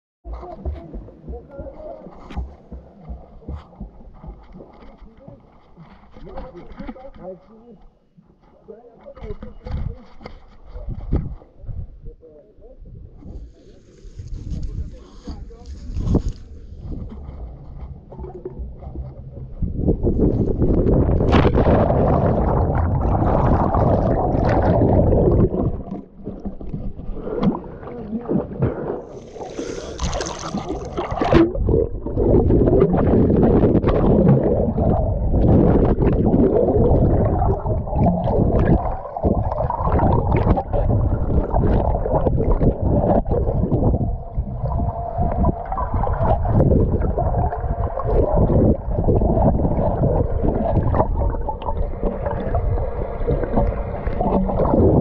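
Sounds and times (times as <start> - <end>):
swimmer knocks and swishes: 0.3 - 7.2, 13.2 - 55.0
underwater rush of water and bubbles: 0.3 - 7.2, 12.8 - 55.0.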